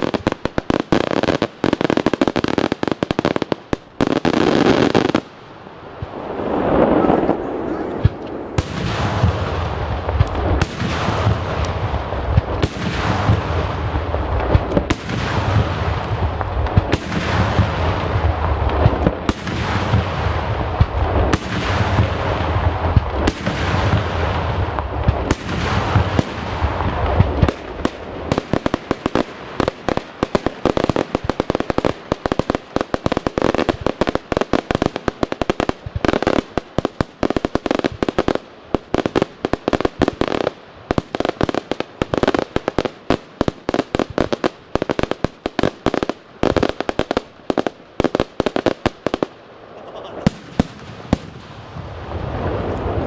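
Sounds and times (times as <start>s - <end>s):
firecracker crackle: 0.0s - 53.0s.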